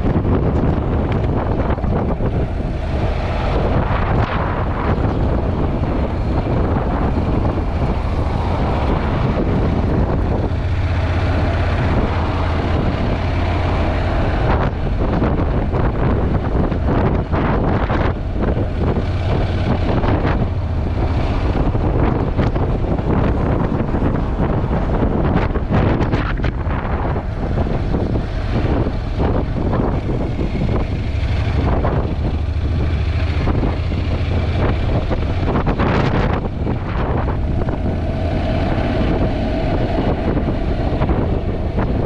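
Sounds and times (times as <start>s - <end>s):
motorcycle engine running: 0.0s - 42.0s
wind buffeting microphone: 0.0s - 42.0s.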